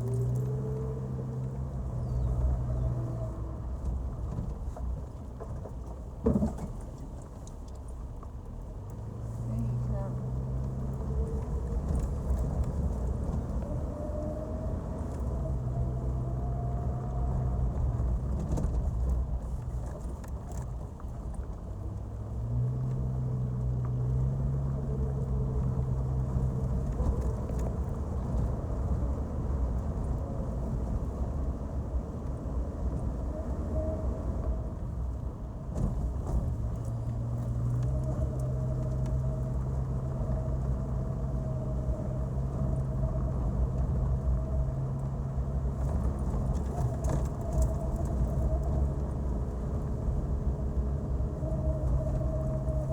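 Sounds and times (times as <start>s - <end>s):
off-road vehicle engine running: 0.0s - 52.9s.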